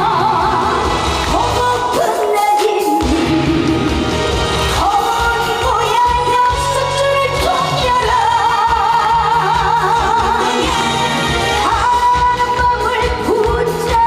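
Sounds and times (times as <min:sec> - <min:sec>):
woman singing: 0:00.0 - 0:04.1, 0:04.7 - 0:14.0
band accompaniment: 0:00.0 - 0:14.0.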